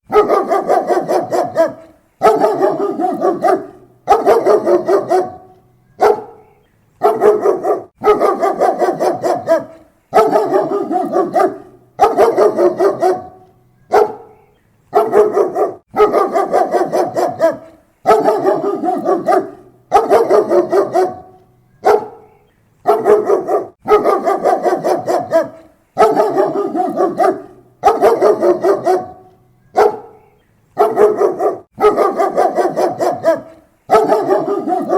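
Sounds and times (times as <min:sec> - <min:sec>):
dog barking: 0:00.1 - 0:34.9.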